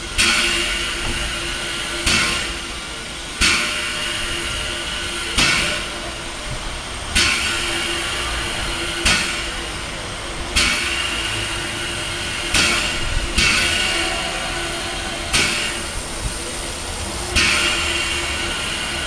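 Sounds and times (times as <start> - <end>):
hissing puffs of steam: 0.0 - 19.0.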